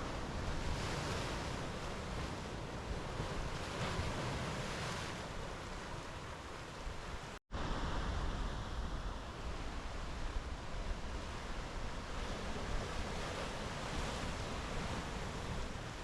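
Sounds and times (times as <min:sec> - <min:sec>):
ocean waves washing onto beach: 0:00.0 - 0:16.0.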